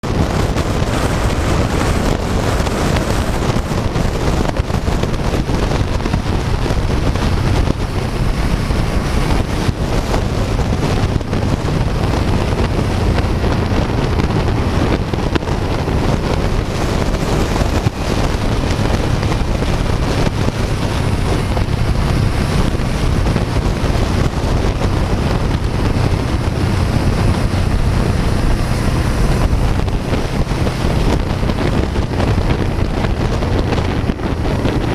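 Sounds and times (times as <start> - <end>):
motorcycle engine running: 0.0 - 34.9
wind noise on microphone: 0.0 - 34.9.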